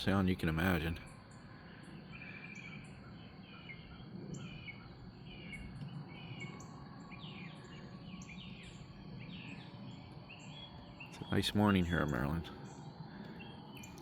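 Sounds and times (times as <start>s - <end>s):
low background hum: 0.0s - 14.0s
songbirds chirping and trilling: 0.0s - 14.0s.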